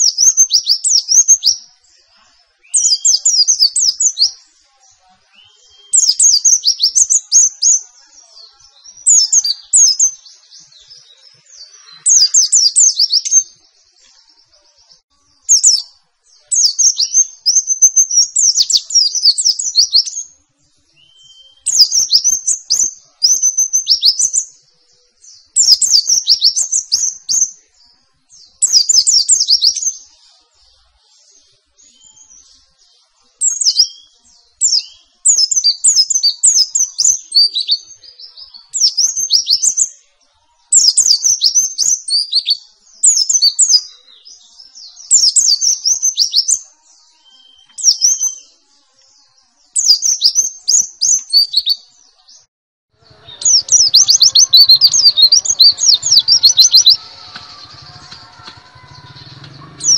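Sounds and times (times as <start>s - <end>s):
white-eye twittering song: 0.0s - 30.1s, 30.7s - 40.1s, 40.8s - 52.0s, 53.0s - 59.9s.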